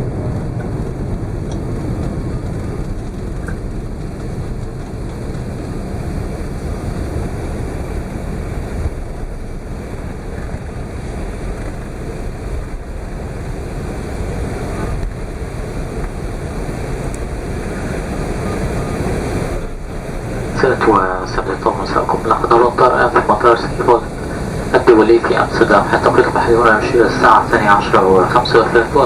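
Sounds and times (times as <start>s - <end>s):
aircraft cabin rumble: 0.0s - 29.0s.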